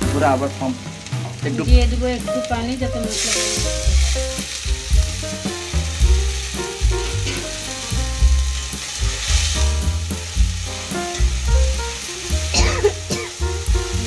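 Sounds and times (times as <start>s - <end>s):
background music: 0.0s - 14.0s
paste sizzling in oil: 0.0s - 14.0s.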